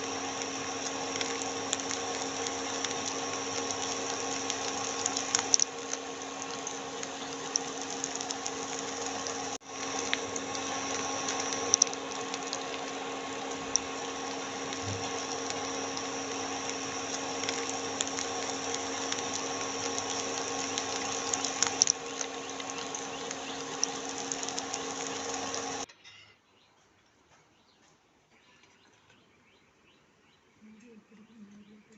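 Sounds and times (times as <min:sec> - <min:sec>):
faint crackles and clicks: 0:00.0 - 0:25.9
mechanical hum: 0:00.0 - 0:31.9.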